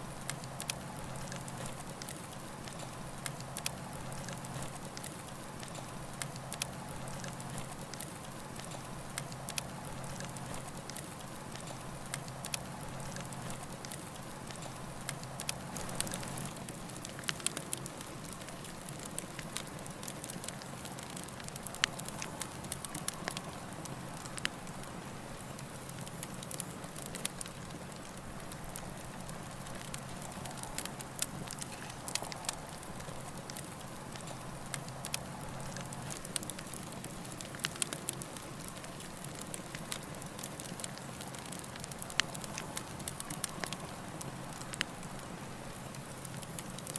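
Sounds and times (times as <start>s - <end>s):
campfire wood crackling and popping: 0.0s - 46.9s
steady fire hiss: 0.0s - 46.9s.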